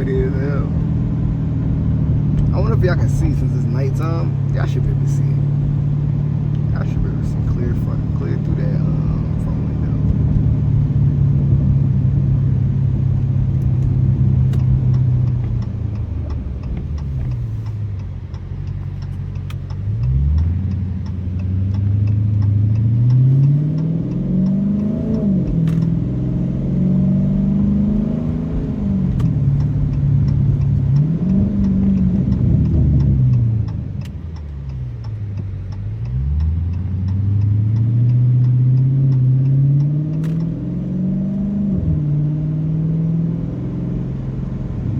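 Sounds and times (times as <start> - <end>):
car engine revving through gears: 0.0 - 44.9.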